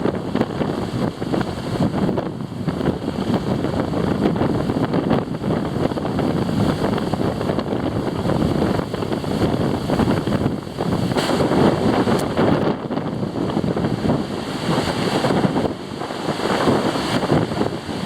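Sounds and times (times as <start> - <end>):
waves washing on a lake: 0.0 - 18.0
wind buffeting microphone: 0.0 - 18.0.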